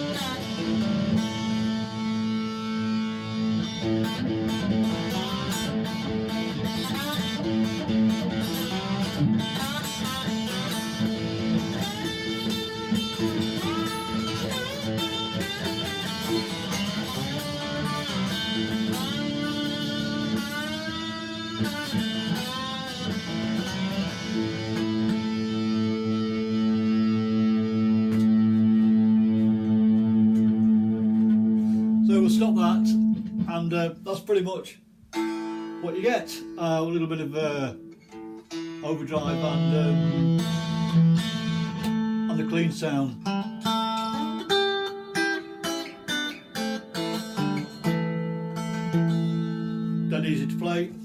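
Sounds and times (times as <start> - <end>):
overdriven electric guitar: 0.0 - 34.0, 35.1 - 51.0.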